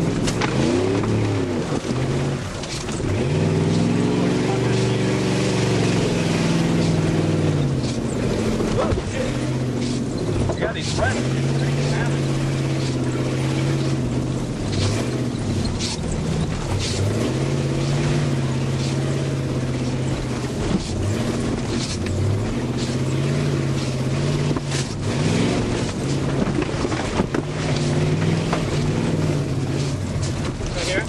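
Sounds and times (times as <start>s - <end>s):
car engine revving: 0.0s - 31.0s
sharp knocks over bumps: 0.0s - 31.0s.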